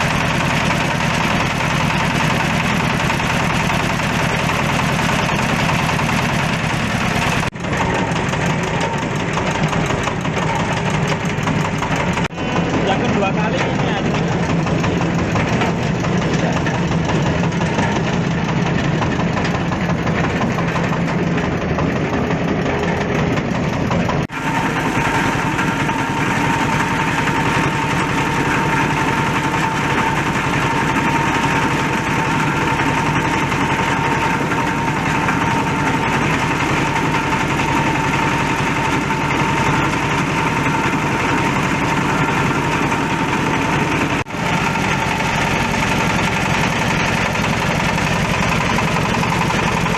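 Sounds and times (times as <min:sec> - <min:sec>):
fabric shredding machine running: 0:00.0 - 0:49.9.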